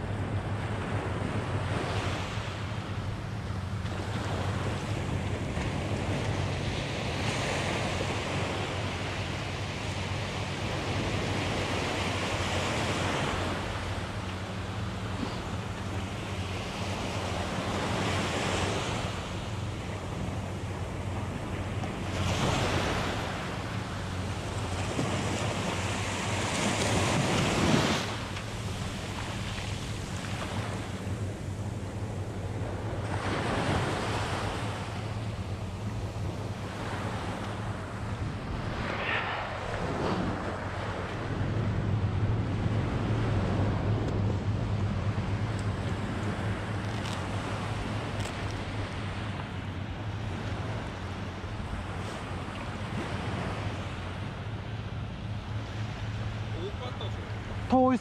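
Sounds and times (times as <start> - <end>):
wind on microphone: 0.0 - 54.3
small waves washing on beach: 0.0 - 58.0.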